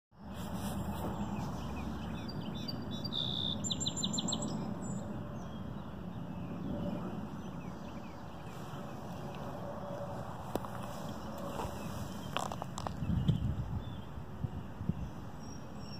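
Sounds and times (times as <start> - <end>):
songbird singing: 0.1 - 15.9.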